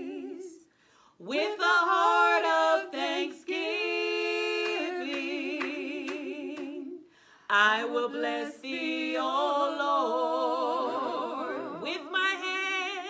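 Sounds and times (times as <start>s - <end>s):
women singing a cappella: 0.0s - 13.0s.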